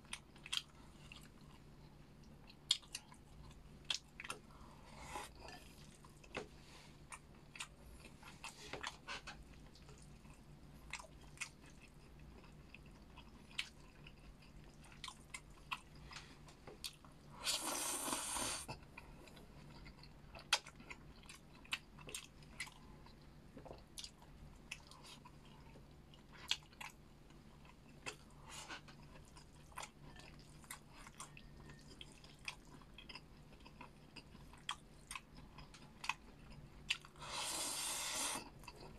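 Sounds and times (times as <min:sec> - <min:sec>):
chewing and biting food: 0:00.0 - 0:37.2.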